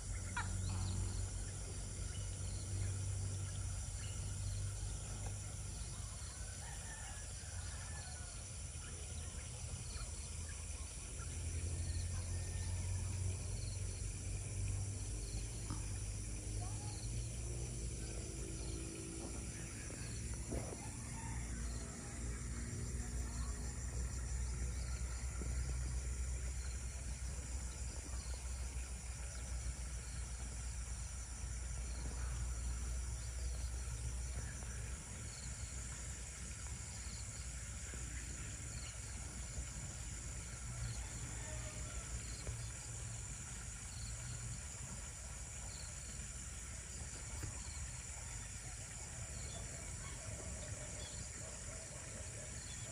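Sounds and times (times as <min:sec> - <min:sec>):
high-pitched insect chorus: 0:00.0 - 0:52.9
insect chirps: 0:00.0 - 0:52.9.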